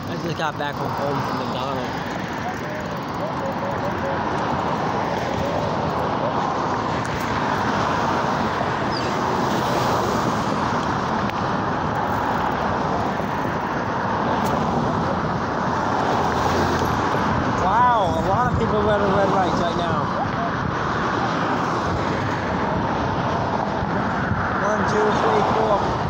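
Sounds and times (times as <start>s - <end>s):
road traffic noise: 0.0s - 26.0s
wind rushing on microphone: 0.0s - 26.0s.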